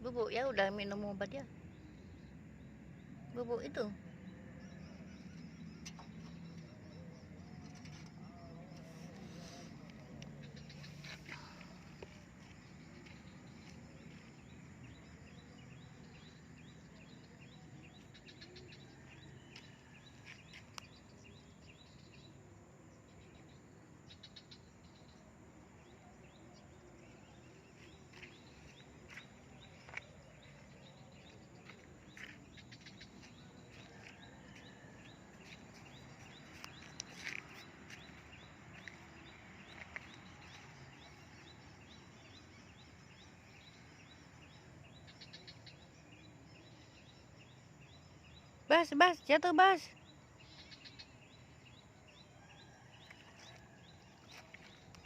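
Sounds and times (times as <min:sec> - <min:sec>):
high chirping of birds or insects: 0:00.0 - 0:55.0.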